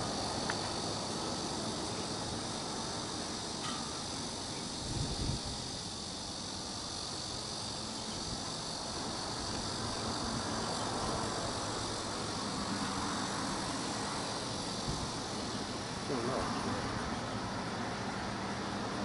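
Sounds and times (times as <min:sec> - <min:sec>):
distant jet airliner: 0:00.0 - 0:19.0
insects buzzing: 0:00.0 - 0:19.0.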